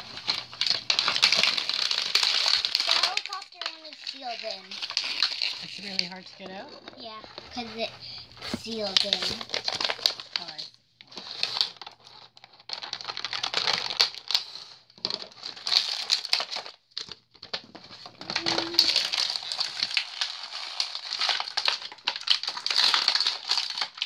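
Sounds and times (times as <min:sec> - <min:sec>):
plastic and paper crinkling: 0:00.0 - 0:24.0.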